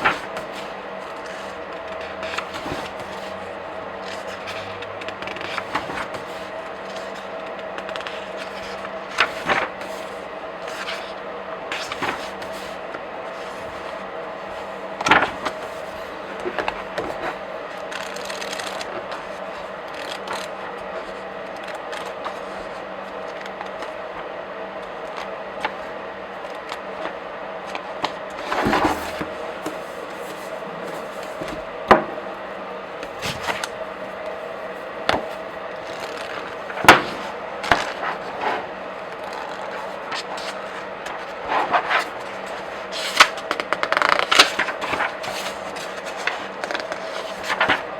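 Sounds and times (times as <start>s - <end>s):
paper pages rustling: 0.0s - 47.9s.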